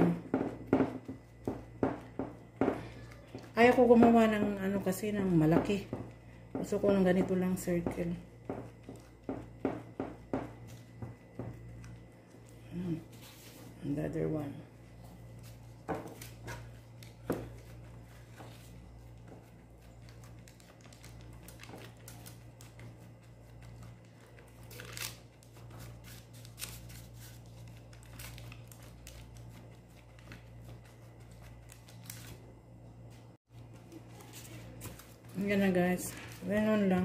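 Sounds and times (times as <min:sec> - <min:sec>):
steady low hum: 0:00.0 - 0:37.0
plastic glove and sheet crinkling: 0:06.7 - 0:37.0.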